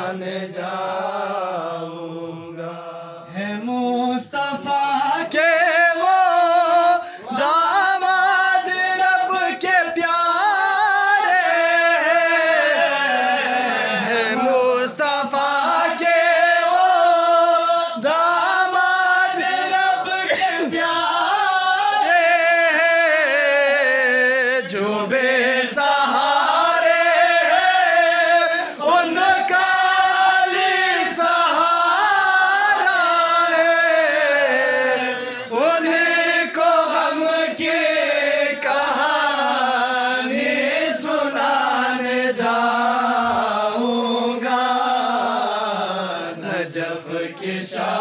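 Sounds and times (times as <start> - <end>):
man singing devotional song: 0.0 - 48.0.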